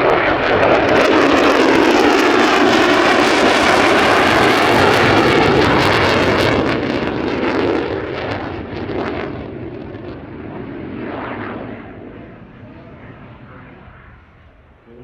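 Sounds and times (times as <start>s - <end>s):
jet engine roaring and crackling: 0.0s - 15.0s.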